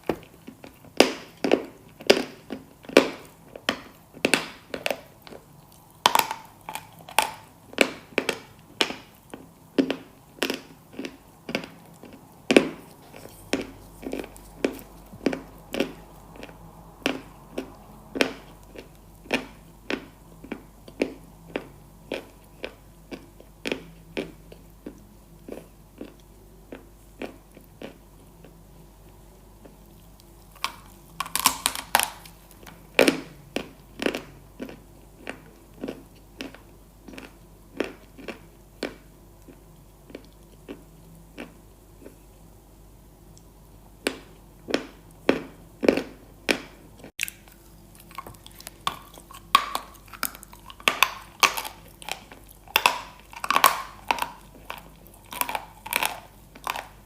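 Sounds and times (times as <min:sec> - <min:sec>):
chewing crunchy food: 0:00.0 - 0:42.4, 0:43.3 - 0:57.0.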